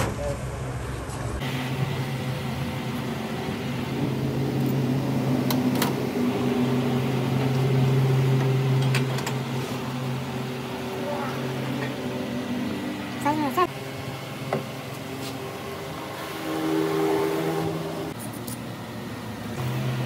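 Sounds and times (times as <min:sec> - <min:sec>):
lathe motor humming: 0:01.4 - 0:20.0.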